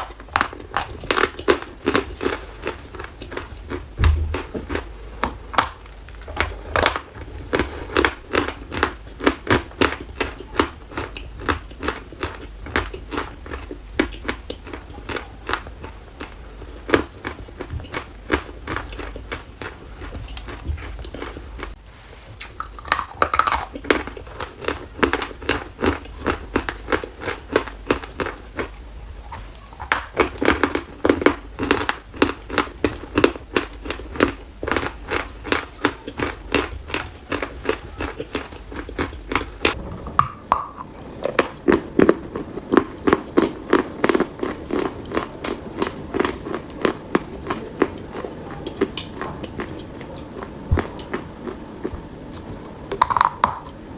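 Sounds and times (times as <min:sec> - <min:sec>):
chalk being chewed crunching: 0:00.0 - 0:53.9.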